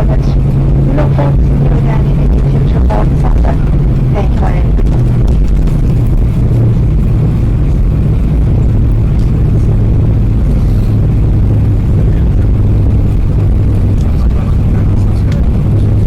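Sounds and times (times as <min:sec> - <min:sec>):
aircraft cabin rumble: 0:00.0 - 0:16.0
jet engines idling drone: 0:00.0 - 0:16.0.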